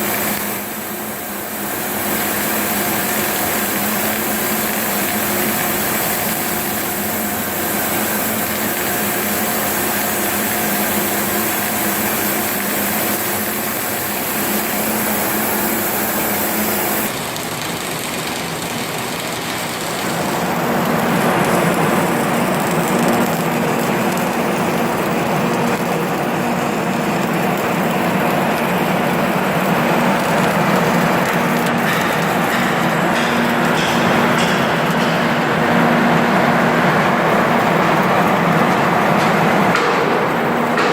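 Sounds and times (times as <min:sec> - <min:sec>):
industrial machine humming: 0:00.0 - 0:40.9.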